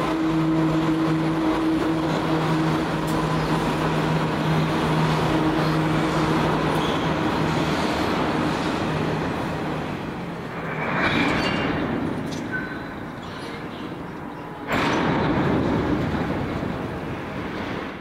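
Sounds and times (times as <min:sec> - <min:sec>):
train wheels rolling on rails: 0:00.0 - 0:18.0.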